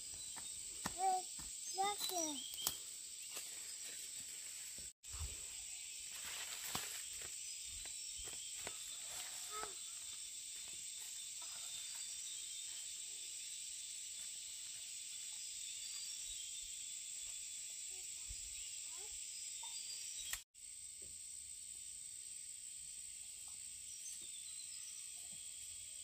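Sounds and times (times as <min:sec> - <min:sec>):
high-pitched insect drone: 0:05.2 - 0:26.0.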